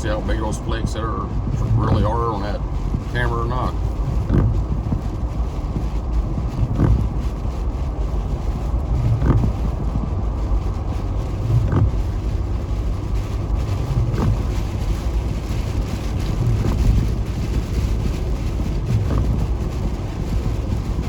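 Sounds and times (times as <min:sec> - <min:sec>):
road and engine rumble in car: 0:00.0 - 0:21.0
windshield wipers sweeping: 0:00.0 - 0:21.0.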